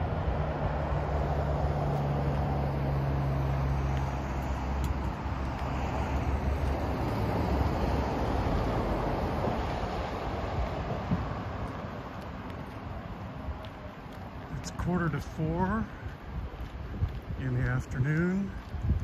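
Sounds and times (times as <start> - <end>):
low engine hum: 0.0 - 19.0
passing vehicles rushing: 0.0 - 19.0.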